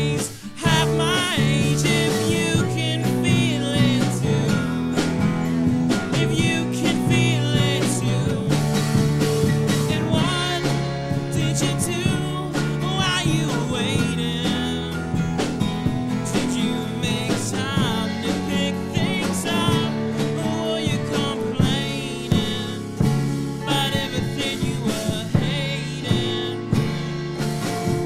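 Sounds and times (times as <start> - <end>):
man singing: 0.0 - 27.2
drums: 0.0 - 28.0
guitars: 0.0 - 28.0.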